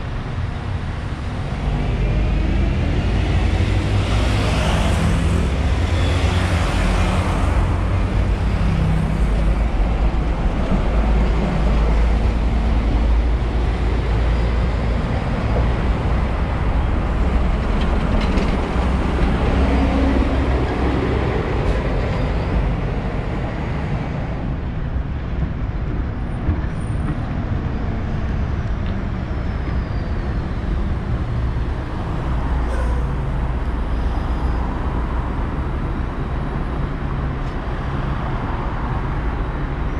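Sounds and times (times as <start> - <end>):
bus engine passing: 0.0 - 25.2, 26.7 - 39.9
road traffic rumble: 0.0 - 39.9.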